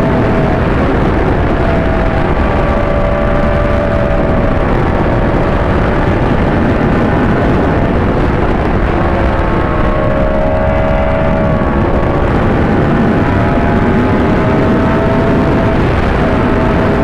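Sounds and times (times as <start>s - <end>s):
constant rushing noise: 0.0s - 17.0s
motorcycle engine running: 0.0s - 17.0s.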